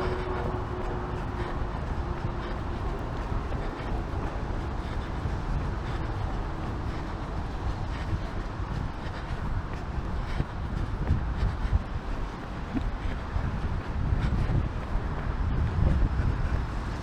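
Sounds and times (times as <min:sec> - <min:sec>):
running footfalls: 0:00.0 - 0:16.7
wind rumbling on microphone: 0:00.0 - 0:17.0.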